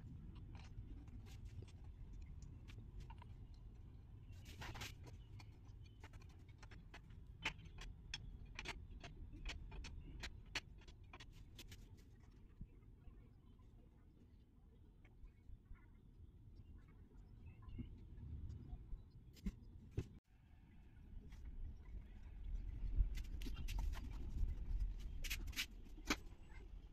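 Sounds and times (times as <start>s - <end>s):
faint low hum: 0.0s - 26.9s.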